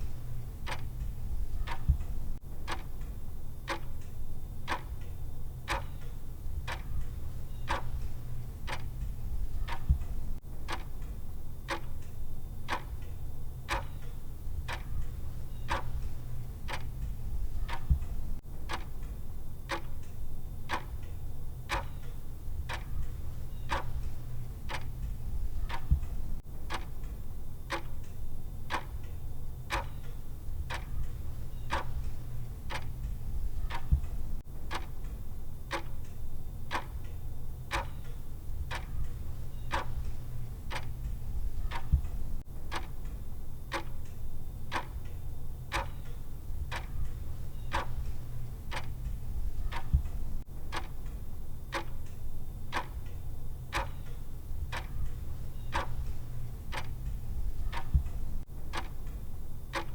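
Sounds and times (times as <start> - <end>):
clock ticking: 0.0 - 59.9
steady low hum: 0.0 - 59.9.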